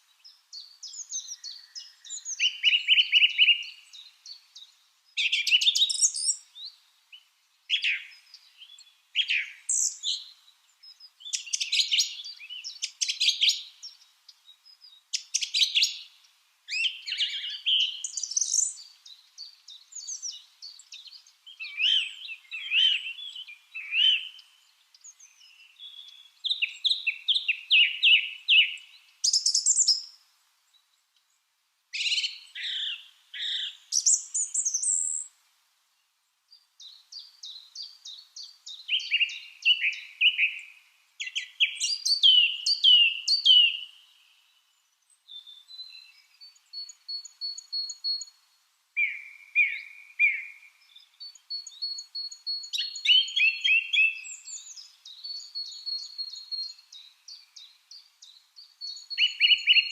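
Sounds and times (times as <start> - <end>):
lovebirds chirping: 0.0 - 35.3, 35.9 - 48.4, 49.0 - 59.9.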